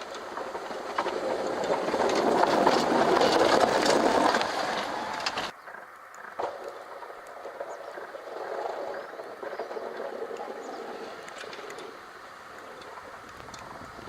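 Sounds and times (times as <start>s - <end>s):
truck plowing snow rumble: 0.0s - 5.6s, 6.2s - 14.0s
faint clicks: 0.0s - 14.0s.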